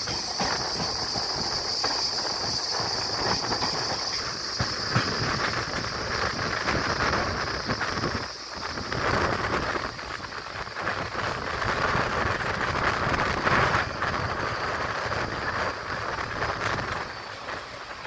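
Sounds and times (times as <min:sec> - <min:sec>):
rush of wind: 0:00.0 - 0:18.0
train wheel noise: 0:00.0 - 0:18.0.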